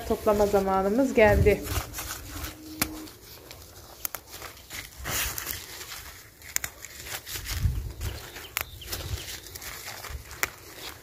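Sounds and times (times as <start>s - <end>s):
leaves rustling and crinkling: 0.0s - 11.0s.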